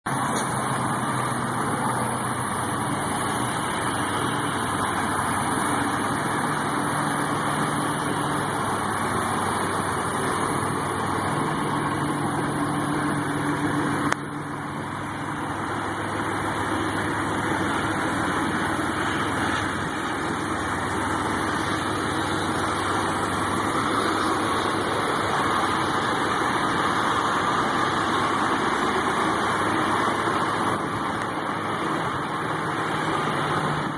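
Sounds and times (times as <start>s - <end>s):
car engine humming: 0.0s - 33.9s
road and wind noise: 0.0s - 33.9s.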